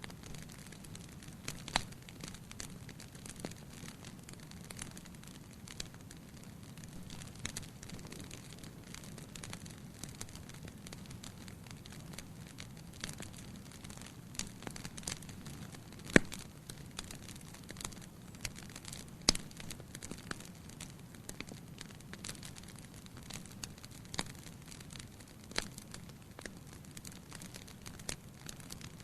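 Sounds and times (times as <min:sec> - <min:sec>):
firewood crackling and popping: 0:00.0 - 0:29.0
soft hiss of flames: 0:00.0 - 0:29.0.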